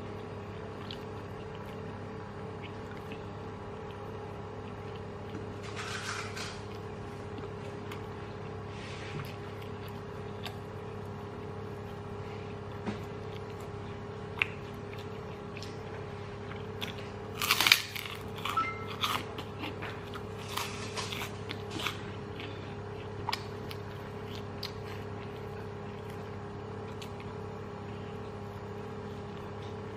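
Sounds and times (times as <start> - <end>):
crunching and chewing crisp food: 0.0 - 29.9
low background hum: 0.0 - 29.9.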